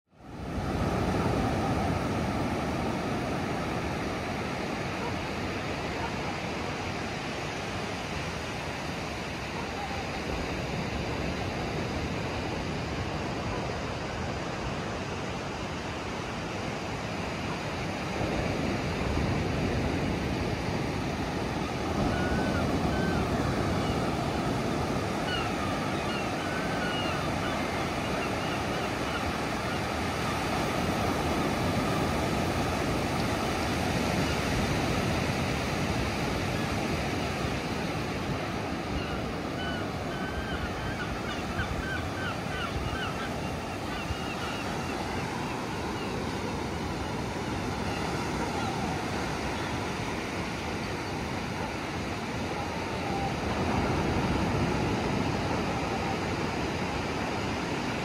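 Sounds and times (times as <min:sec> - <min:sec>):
ocean surf breaking: 0:00.2 - 0:58.0.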